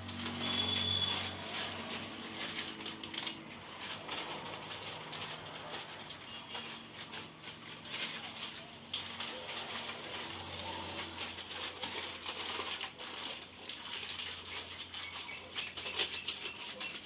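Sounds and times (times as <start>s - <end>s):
plastic snack packet crinkling: 0.0s - 17.0s.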